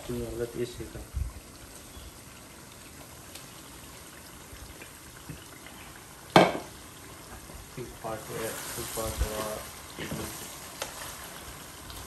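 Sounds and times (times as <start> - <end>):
pot simmering hiss: 0.0 - 12.0.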